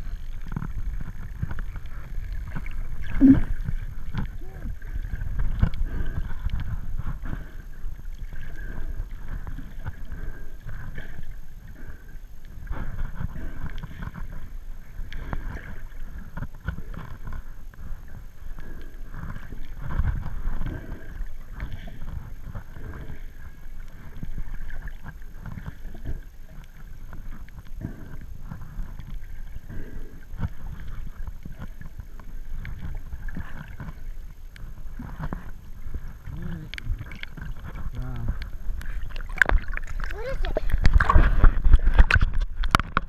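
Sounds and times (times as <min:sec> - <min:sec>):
muffled underwater rumble: 0:00.0 - 0:43.0.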